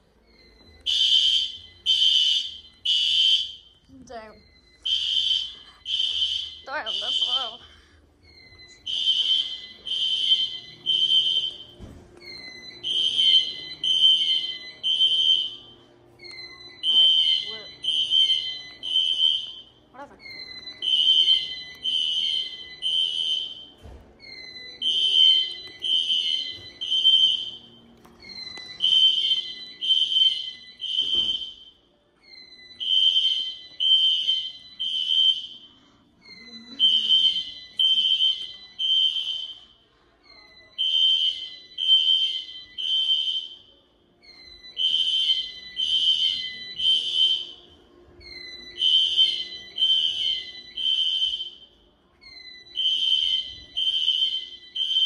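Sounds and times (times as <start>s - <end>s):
fire alarm horns pulsing: 0.0s - 55.0s.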